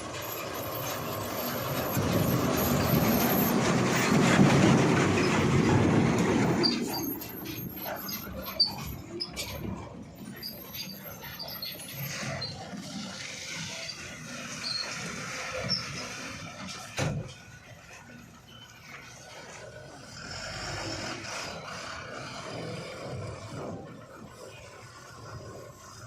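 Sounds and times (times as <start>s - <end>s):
backhoe loader mechanical rush: 0.0s - 26.0s.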